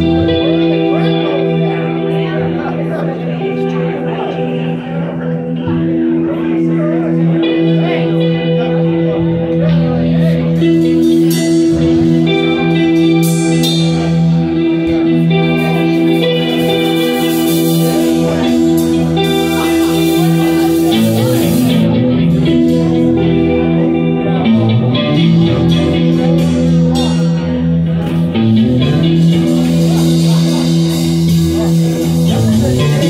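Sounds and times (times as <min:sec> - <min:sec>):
bass guitar: 0:00.0 - 0:33.0
electric guitar: 0:00.0 - 0:33.0.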